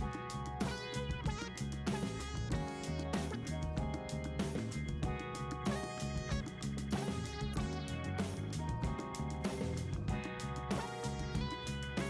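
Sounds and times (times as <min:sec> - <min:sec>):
guitar music with steady beat: 0:00.0 - 0:12.0.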